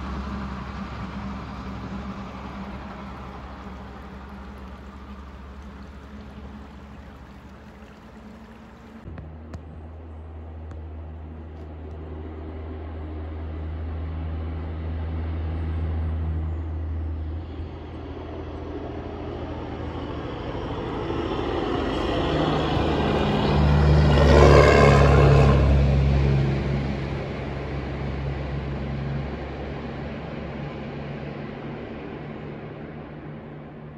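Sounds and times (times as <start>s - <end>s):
diesel truck passing: 0.0s - 9.1s, 11.1s - 33.9s.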